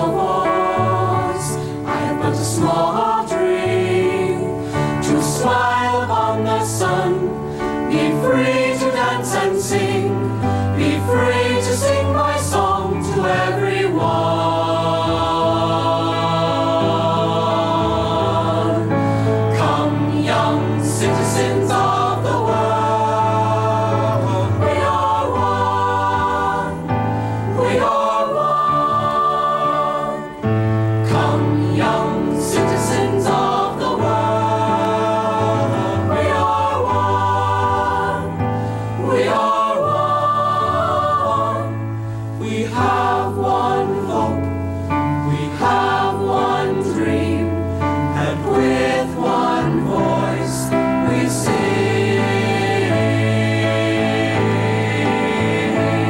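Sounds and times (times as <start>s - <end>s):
mixed choir singing in harmony: 0.0s - 56.0s
piano accompaniment: 0.0s - 56.0s.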